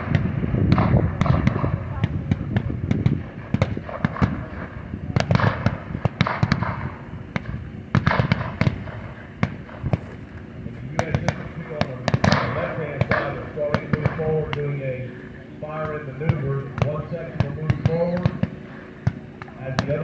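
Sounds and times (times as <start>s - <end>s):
gunshots: 0.0s - 10.1s, 11.0s - 14.7s, 15.8s - 20.0s.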